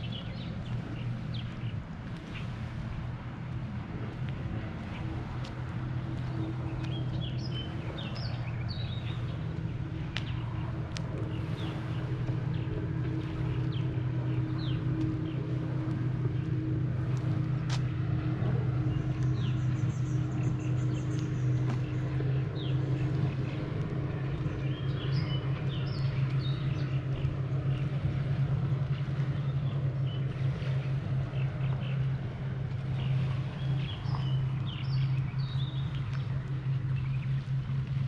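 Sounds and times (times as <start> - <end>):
birds chirping: 0.0 - 38.0
low engine hum: 0.0 - 38.0.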